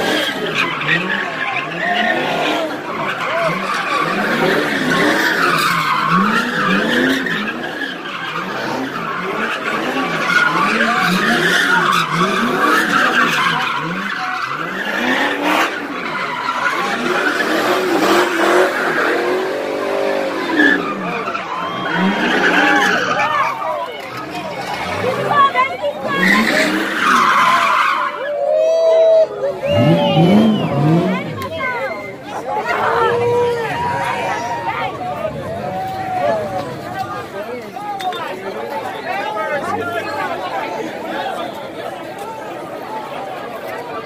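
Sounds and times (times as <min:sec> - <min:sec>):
car engine revving: 0:00.0 - 0:28.0, 0:29.6 - 0:37.6
tire squeal: 0:00.0 - 0:44.0.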